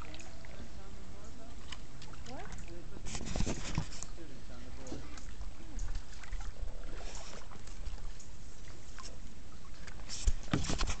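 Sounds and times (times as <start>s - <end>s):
paddle drips and splashes: 0.0s - 11.0s.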